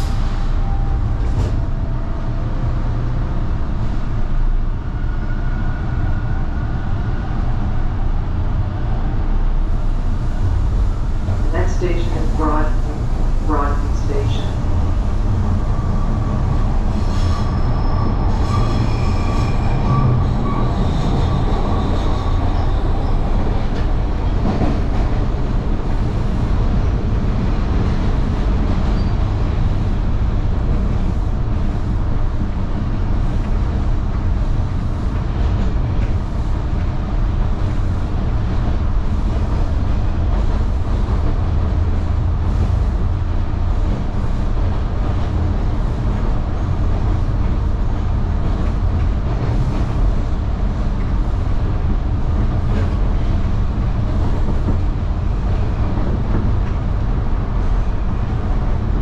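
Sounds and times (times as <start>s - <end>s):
subway train rumble: 0.0s - 59.0s.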